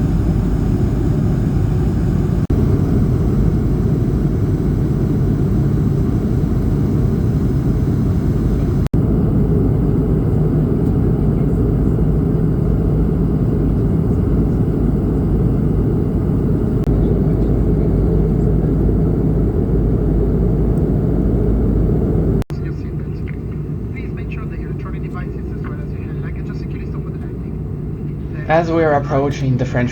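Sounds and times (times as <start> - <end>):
aircraft cabin engine rumble: 0.0 - 29.9.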